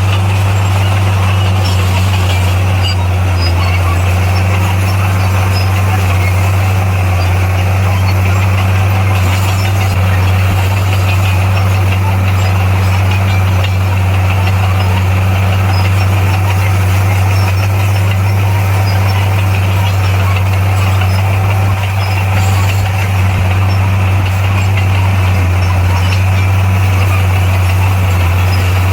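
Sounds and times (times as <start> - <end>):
diesel engine humming: 0.0 - 28.9.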